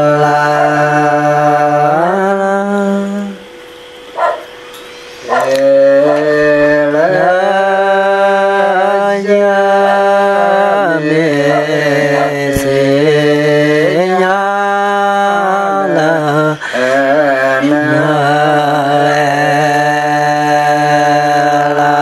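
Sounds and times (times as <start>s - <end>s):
man chanting: 0.0s - 3.6s, 5.2s - 22.0s.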